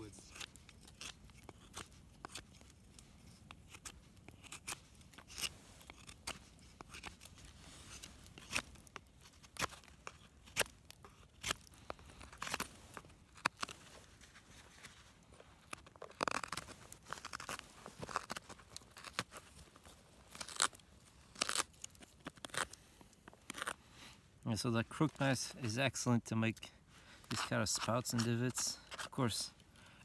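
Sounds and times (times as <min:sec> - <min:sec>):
knife carving wooden stick: 0:00.0 - 0:23.8, 0:27.3 - 0:29.6.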